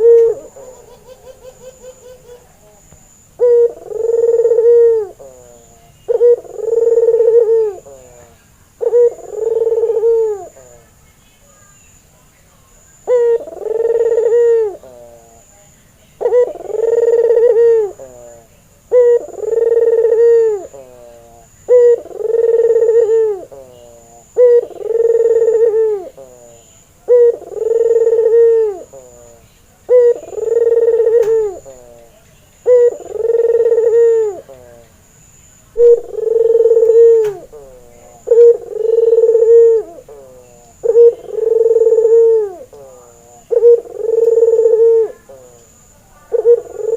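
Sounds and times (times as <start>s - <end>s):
dove cooing: 0.0s - 10.9s, 13.0s - 15.5s, 16.2s - 35.0s, 35.7s - 46.9s.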